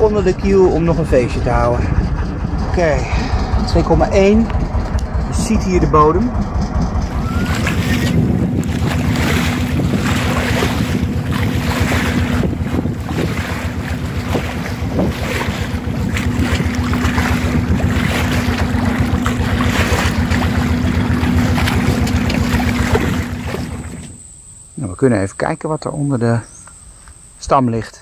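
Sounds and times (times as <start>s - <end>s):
wind buffeting microphone: 0.0s - 24.0s
water washing along hull: 0.0s - 24.2s
boat engine droning: 0.0s - 27.7s.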